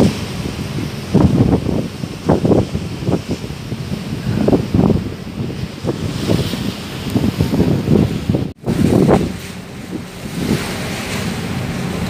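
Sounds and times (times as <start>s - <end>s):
sea wash: 0.0s - 12.0s
wind gusting across microphone: 0.0s - 12.0s.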